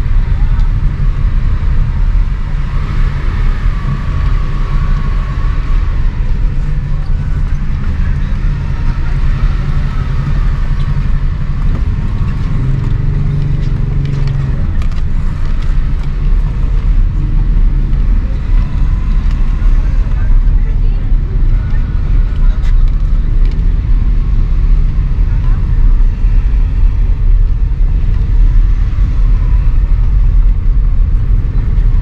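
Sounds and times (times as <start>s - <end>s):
car engine rumble: 0.0s - 32.0s
road noise: 0.0s - 32.0s.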